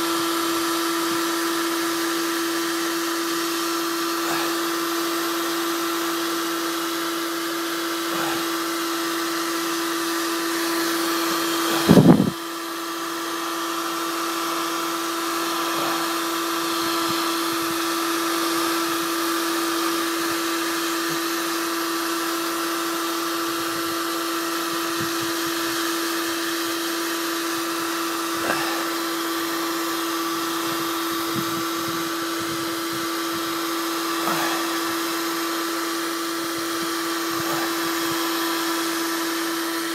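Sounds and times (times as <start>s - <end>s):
heat gun fan humming: 0.0s - 39.9s.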